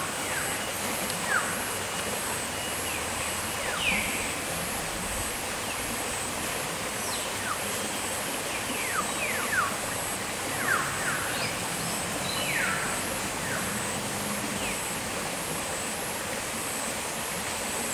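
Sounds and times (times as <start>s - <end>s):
pulsing insect trill: 0.1s - 17.2s.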